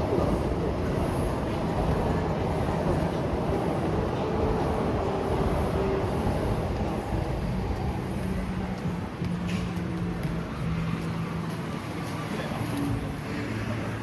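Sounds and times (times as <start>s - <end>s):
large vehicle rumbling: 0.0s - 14.0s.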